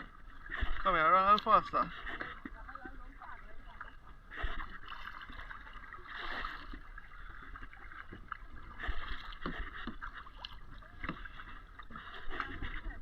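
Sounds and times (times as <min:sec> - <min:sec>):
paddle strokes splashing water: 0:00.0 - 0:13.0.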